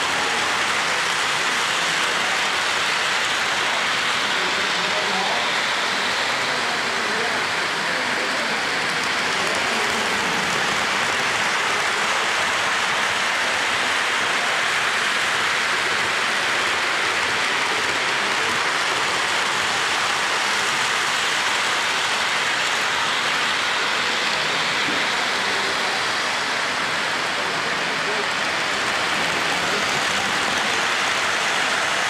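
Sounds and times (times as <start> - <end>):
model trains rolling on metal track: 0.0 - 32.0.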